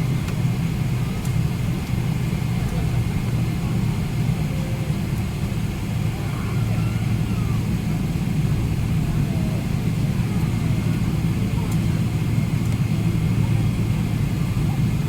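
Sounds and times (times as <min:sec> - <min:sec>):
low aircraft cabin hum: 0:00.0 - 0:15.0
faint voices: 0:00.9 - 0:15.0.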